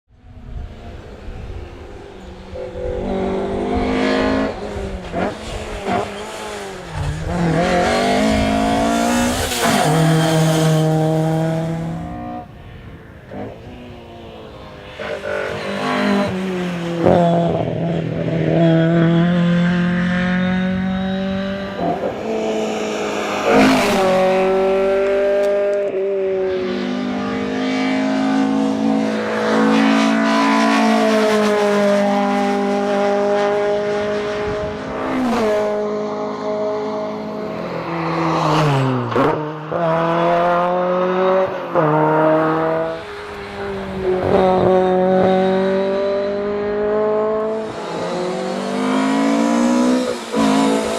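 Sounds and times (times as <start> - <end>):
rally car engine accelerating: 1.9 - 12.5, 13.3 - 50.9.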